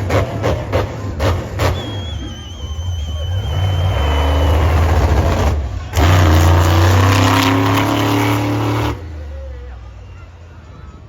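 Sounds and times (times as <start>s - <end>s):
monster truck engine revving: 0.0s - 9.6s.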